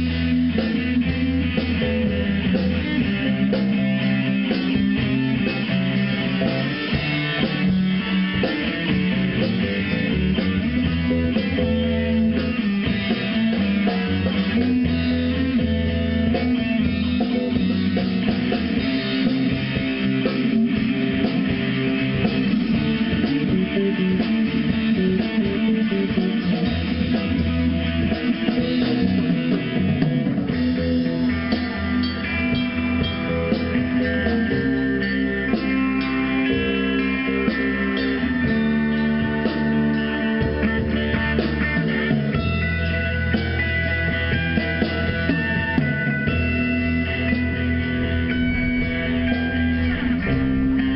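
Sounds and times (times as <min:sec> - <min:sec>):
high held guitar notes: 0:00.0 - 0:50.9
rock band playing: 0:00.0 - 0:50.9.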